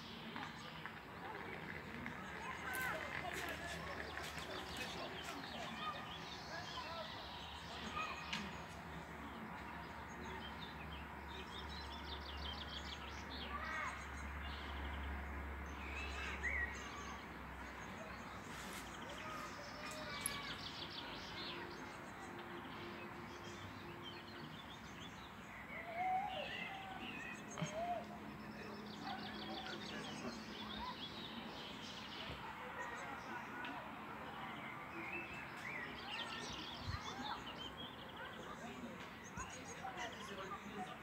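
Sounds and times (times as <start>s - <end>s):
songbirds chirping and trilling: 0.0s - 41.0s.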